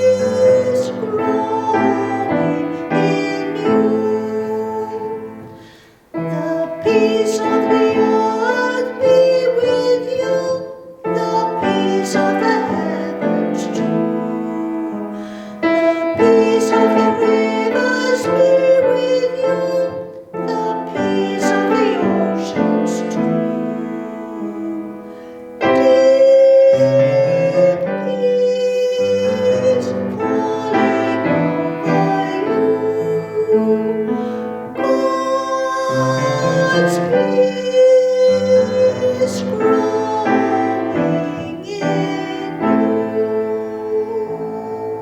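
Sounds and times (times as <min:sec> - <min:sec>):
piano music: 0:00.0 - 0:45.0.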